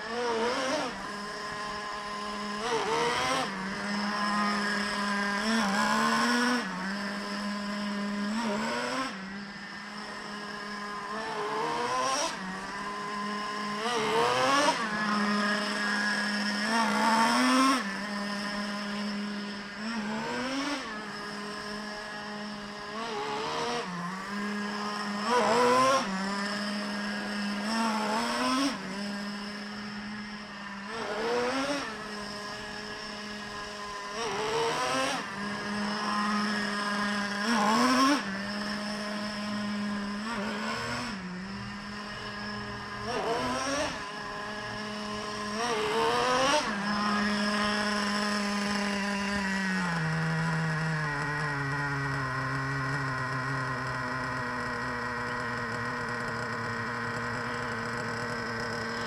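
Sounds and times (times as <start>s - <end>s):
model truck engine revving: 0.0s - 59.0s.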